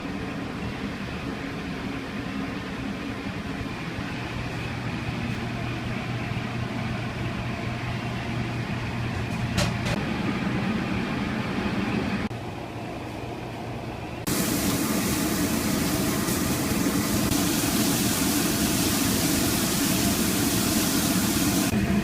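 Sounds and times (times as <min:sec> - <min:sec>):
kitchen equipment hum: 0:00.0 - 0:22.0.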